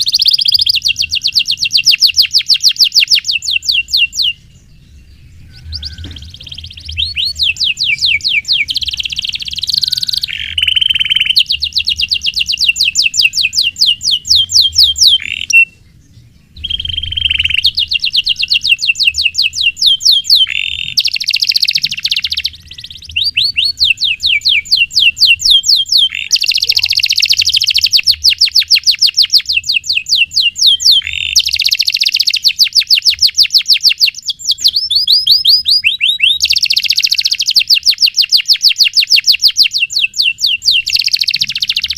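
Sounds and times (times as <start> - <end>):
canary singing: 0.0 - 41.9.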